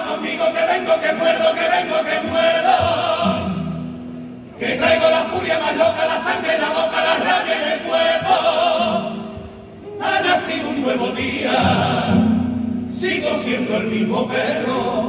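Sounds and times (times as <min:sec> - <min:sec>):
male choir singing in harmony: 0:00.0 - 0:15.0.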